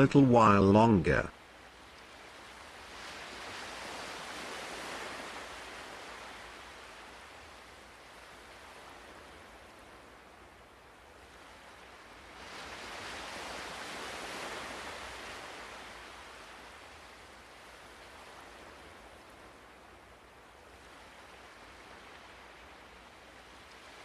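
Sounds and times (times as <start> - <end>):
ocean waves washing on shore: 0.0 - 24.0.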